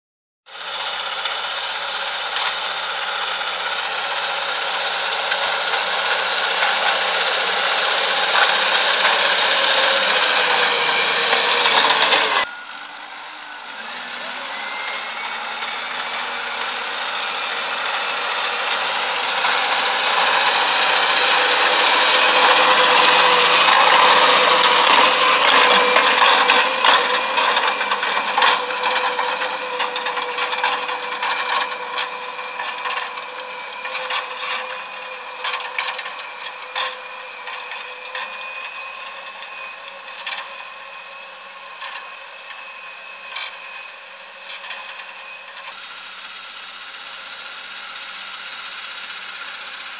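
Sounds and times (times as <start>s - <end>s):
tractor engine with whine: 0.5s - 49.9s
cultivator rotors knocking and rattling: 0.7s - 12.5s, 14.2s - 45.8s.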